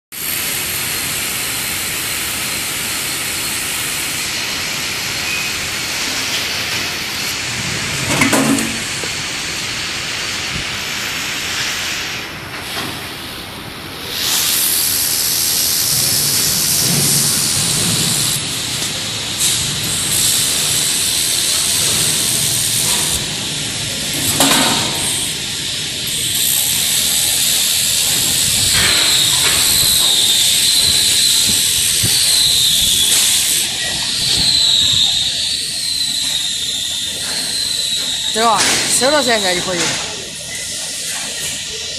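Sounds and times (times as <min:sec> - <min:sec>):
laser welder hissing: 0:00.2 - 0:41.9.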